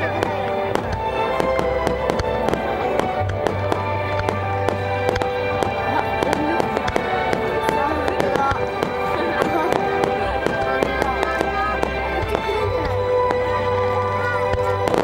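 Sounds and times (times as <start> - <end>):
background music: 0.0 - 15.0
fireworks bangs and crackles: 0.0 - 15.0
voices: 0.0 - 15.0.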